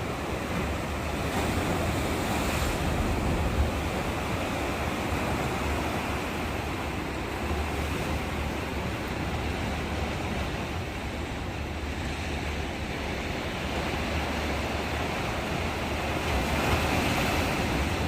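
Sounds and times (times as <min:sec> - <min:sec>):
ocean surf washing onto beach: 0:00.0 - 0:18.0.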